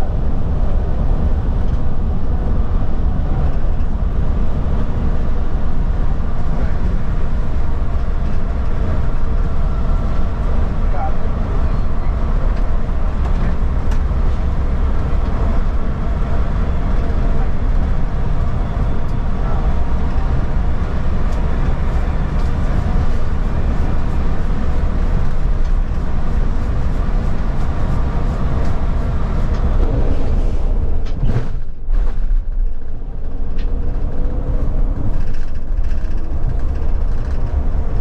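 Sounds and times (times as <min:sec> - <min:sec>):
tyre and road noise in bus: 0:00.0 - 0:38.0.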